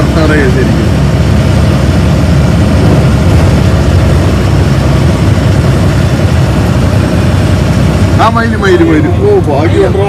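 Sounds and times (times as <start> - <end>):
bus diesel engine rumble: 0.0 - 10.0.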